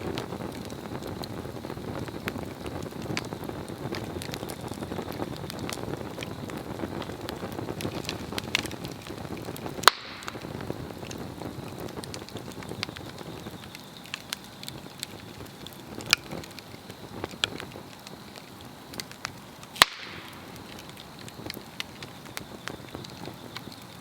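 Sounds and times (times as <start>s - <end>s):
burning log crackling and popping: 0.0s - 24.0s.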